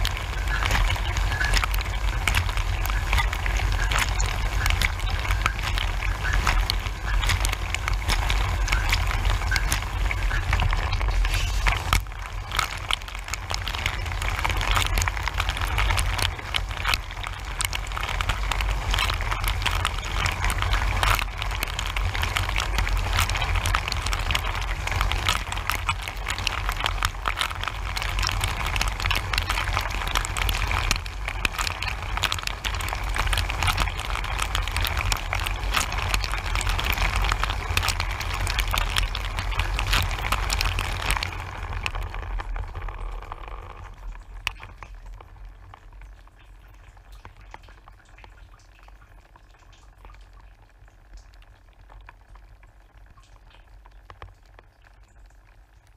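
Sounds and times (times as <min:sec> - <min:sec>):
pump humming low: 0:00.0 - 0:55.9.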